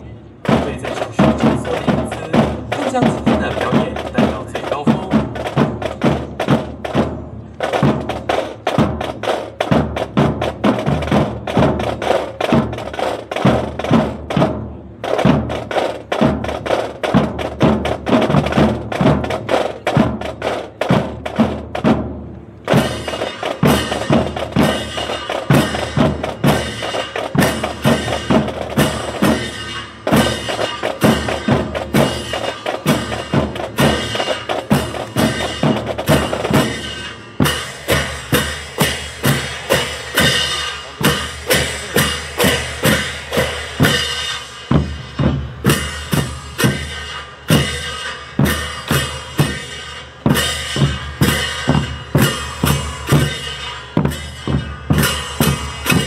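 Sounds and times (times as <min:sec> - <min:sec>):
drum and bugle corps playing: 0:00.0 - 0:56.0.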